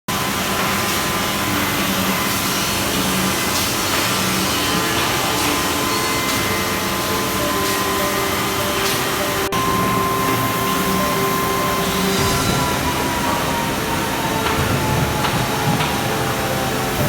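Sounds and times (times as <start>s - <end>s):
woodworking machinery whirring: 0.1s - 17.0s.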